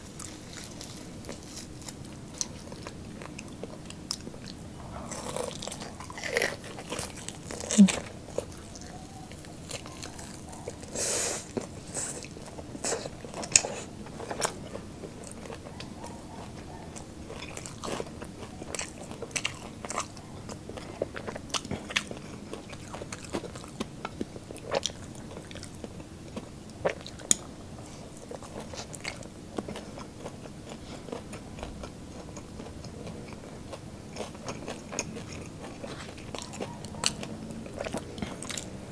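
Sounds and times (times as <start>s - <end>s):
crunching bites and chewing: 0.0s - 38.9s.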